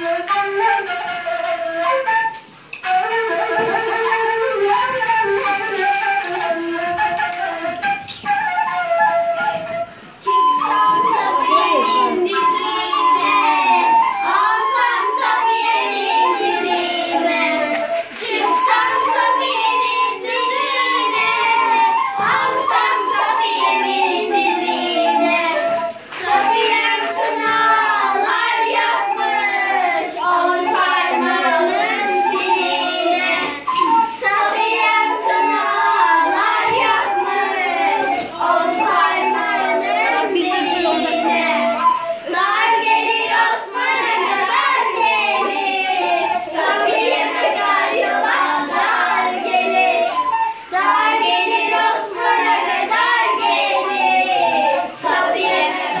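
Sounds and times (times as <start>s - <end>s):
end-blown flute: 0.0s - 56.0s
girls singing together: 9.3s - 56.0s.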